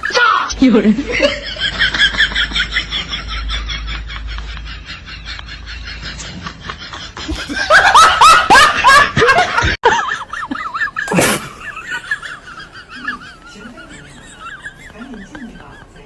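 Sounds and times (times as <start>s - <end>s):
bursts of laughter: 0.2s - 16.0s.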